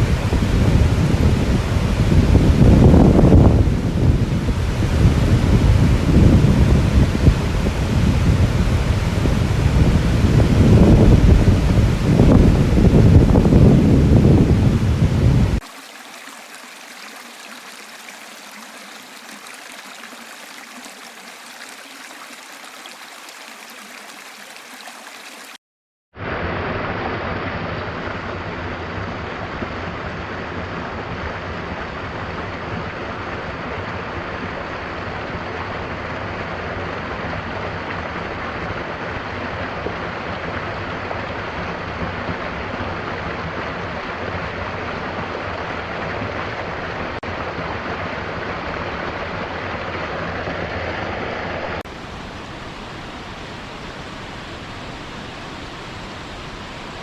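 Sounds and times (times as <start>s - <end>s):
waterfall rushing and splashing: 0.0s - 25.6s, 26.2s - 57.0s.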